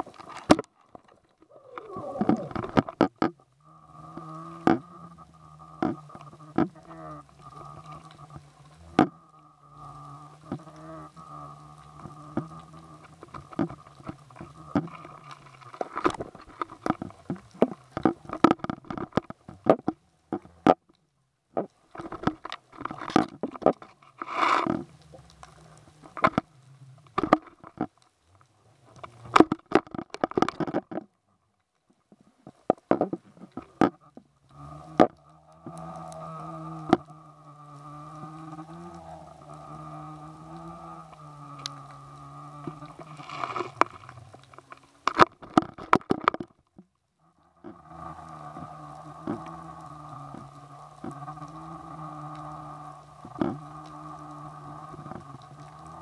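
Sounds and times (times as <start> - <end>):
low underwater hum: 0.0 - 56.0.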